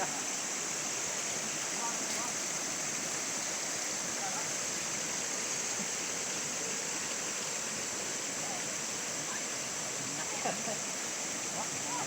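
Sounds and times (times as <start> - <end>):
high hiss: 0.0 - 12.0.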